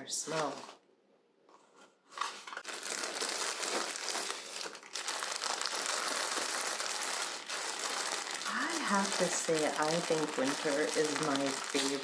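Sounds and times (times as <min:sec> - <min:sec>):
packaging crinkling: 0:02.2 - 0:12.0.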